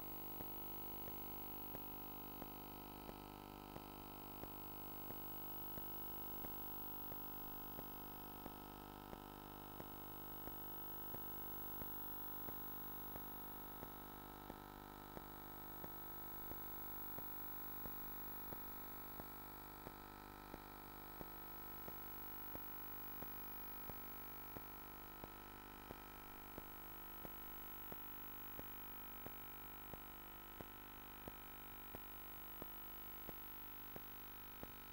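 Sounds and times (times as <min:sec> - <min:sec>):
faint electrical hum: 0:00.0 - 0:34.9.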